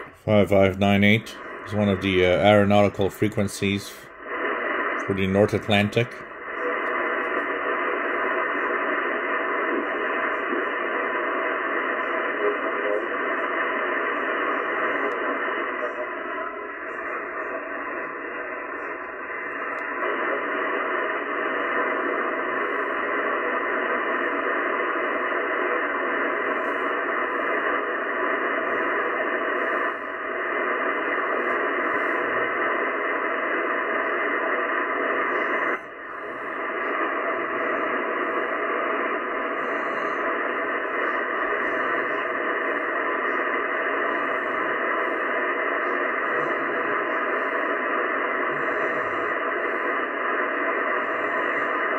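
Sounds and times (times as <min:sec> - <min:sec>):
shortwave radio hiss: 0:00.0 - 0:51.9.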